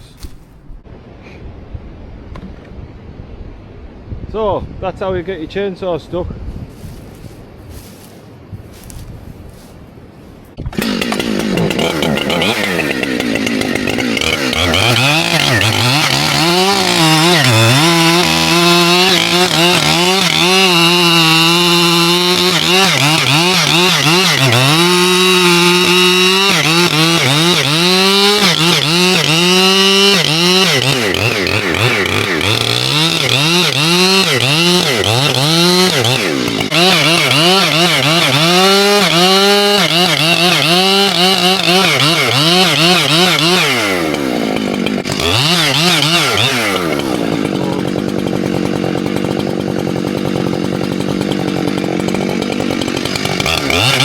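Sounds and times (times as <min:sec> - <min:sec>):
chainsaw cutting wood: 0:10.5 - 0:54.0.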